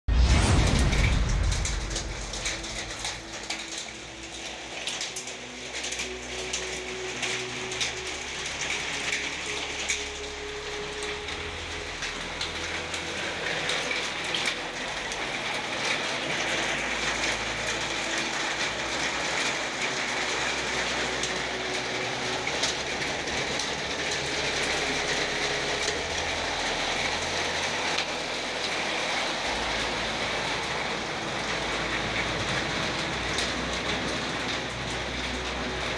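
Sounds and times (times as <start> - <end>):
steady rain: 0.1 - 35.9
hailstones ticking on hard surfaces: 0.3 - 35.9.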